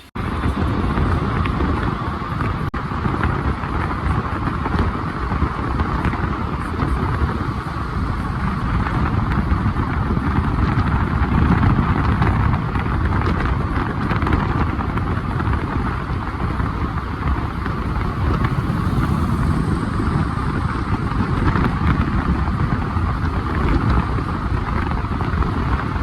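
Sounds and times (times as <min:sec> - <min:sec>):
car road noise while driving: 0:00.0 - 0:26.0.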